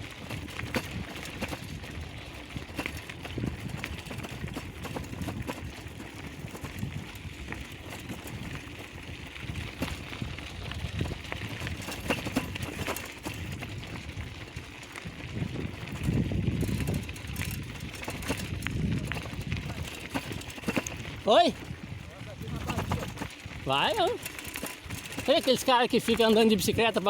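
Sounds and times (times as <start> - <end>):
bicycle clicks and rattles: 0.0 - 27.0
bicycles rolling: 0.0 - 27.0.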